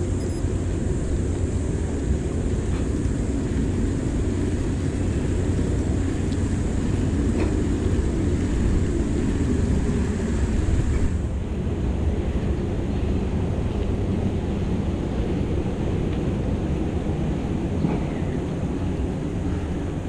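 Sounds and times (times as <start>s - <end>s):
wind rumble: 0.0s - 20.0s.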